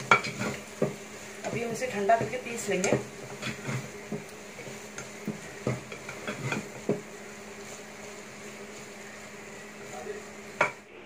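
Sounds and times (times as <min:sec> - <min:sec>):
spatula scraping a pot: 0:00.0 - 0:09.0.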